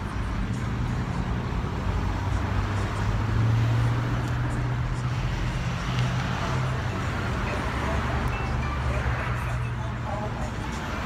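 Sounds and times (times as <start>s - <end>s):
car engine humming: 0.0s - 11.0s
road noise: 0.0s - 11.0s.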